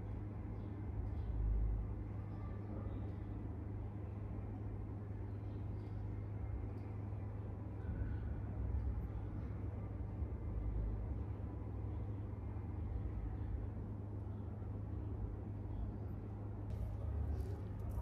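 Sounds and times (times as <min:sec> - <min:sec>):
faint background noise: 0:00.0 - 0:18.0
steady low hum: 0:00.0 - 0:18.0.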